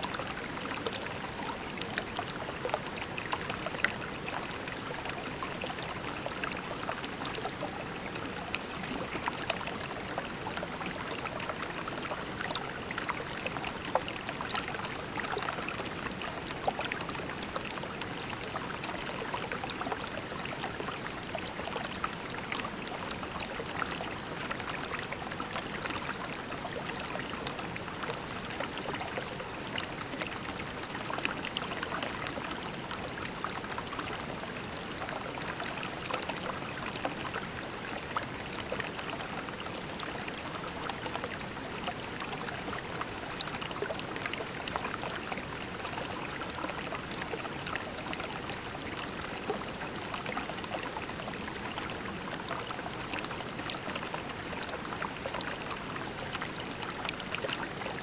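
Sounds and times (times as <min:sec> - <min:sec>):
creek flowing over pebbles: 0:00.0 - 0:58.0.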